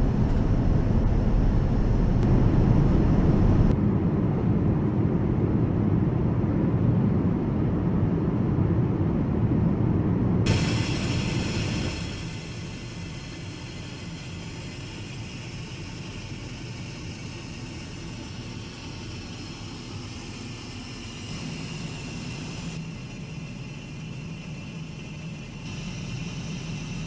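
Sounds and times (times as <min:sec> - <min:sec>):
aircraft cabin noise: 0:00.0 - 0:27.0
low hum: 0:00.0 - 0:27.0.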